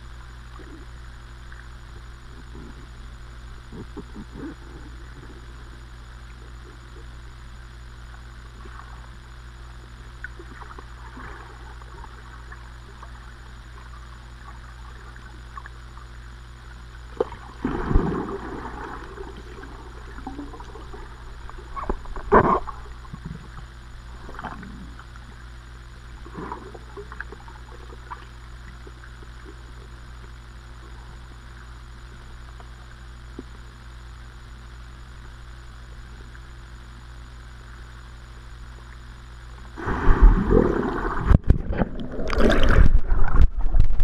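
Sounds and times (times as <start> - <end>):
muffled underwater rumble: 0.0 - 44.0.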